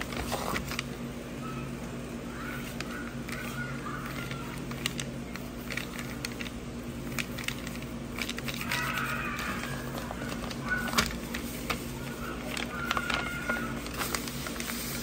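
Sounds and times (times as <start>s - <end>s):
steady low hum: 0.0s - 15.0s
paper rustling under fingers: 2.4s - 15.0s
scattered clicks: 2.6s - 14.7s.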